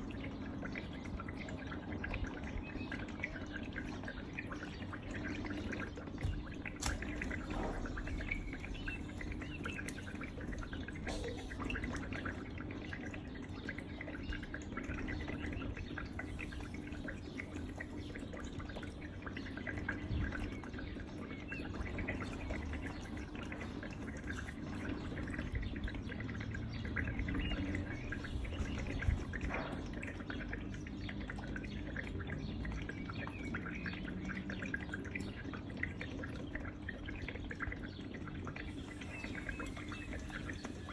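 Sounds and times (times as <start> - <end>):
fountain water trickling: 0.0 - 40.9.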